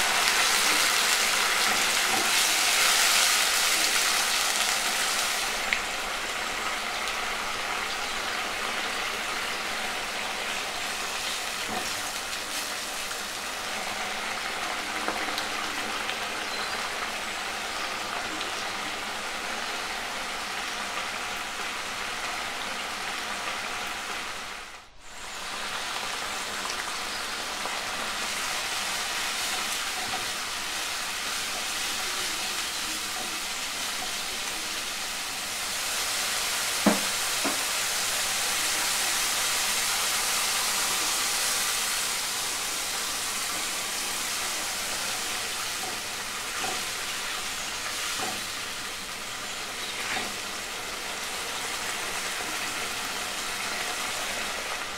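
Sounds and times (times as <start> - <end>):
spices sizzling in hot oil: 0.0 - 54.9.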